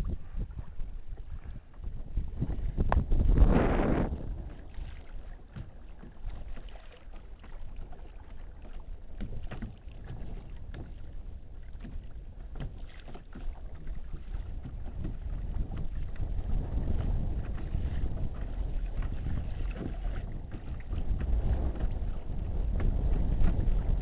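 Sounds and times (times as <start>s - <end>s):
water lapping against kayak hull: 0.0s - 24.0s
wind rumble on microphone: 0.0s - 24.0s.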